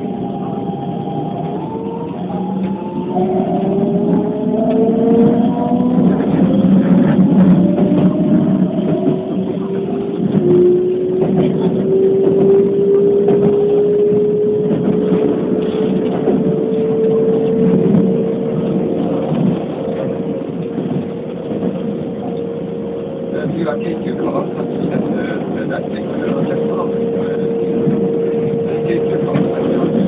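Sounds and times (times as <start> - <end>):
wheel and rail rumble: 0.0 - 30.0.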